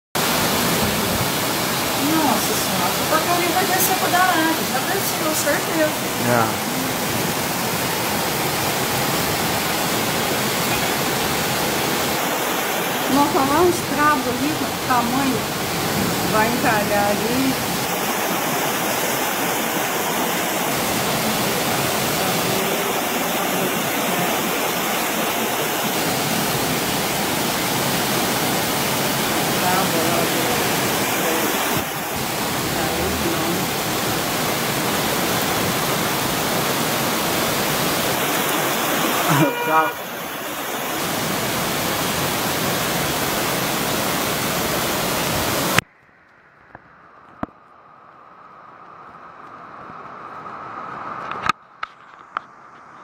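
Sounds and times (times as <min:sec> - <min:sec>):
floodwater running down street: 0:00.2 - 0:46.0
heavy downpour: 0:00.2 - 0:53.0
torrential rain: 0:00.2 - 0:53.0.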